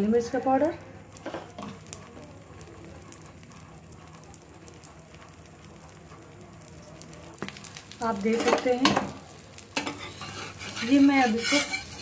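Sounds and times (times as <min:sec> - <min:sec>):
egg and oil sizzling: 0:00.0 - 0:12.0.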